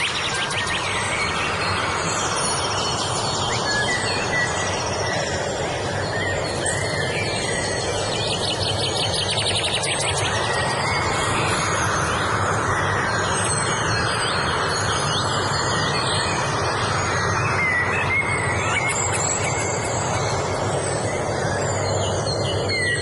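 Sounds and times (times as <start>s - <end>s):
birds chirping and singing: 0.0s - 23.0s
steady rushing background noise: 0.0s - 23.0s.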